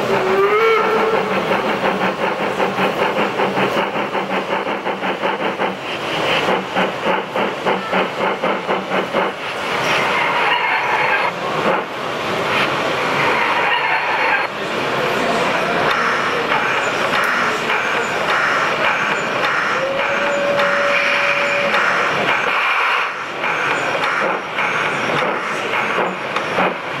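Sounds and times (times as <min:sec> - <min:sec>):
steady steam hiss: 0:00.0 - 0:13.5, 0:14.2 - 0:27.0
model steam locomotive chuffing: 0:00.0 - 0:27.0.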